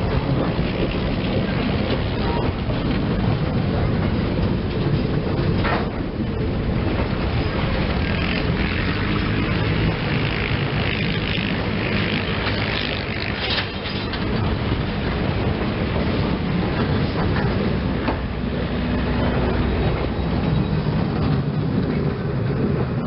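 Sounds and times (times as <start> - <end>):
passenger train rumbling on rails: 0.0 - 23.0.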